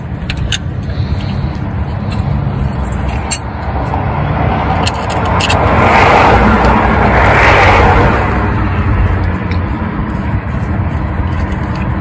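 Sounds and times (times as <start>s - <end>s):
passing vehicle road noise: 0.0s - 12.0s
steady low rumble: 0.0s - 12.0s.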